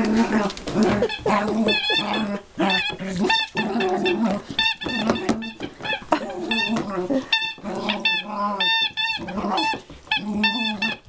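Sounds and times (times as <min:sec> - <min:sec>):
squeaky toy squeaking: 0:01.0 - 0:11.0.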